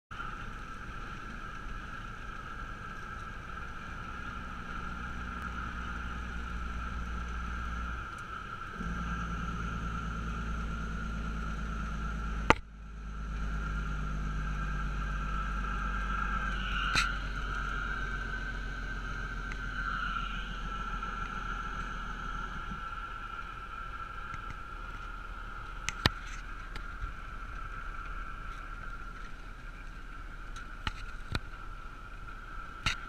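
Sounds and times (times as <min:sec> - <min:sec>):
truck diesel engine droning: 0:00.1 - 0:33.0.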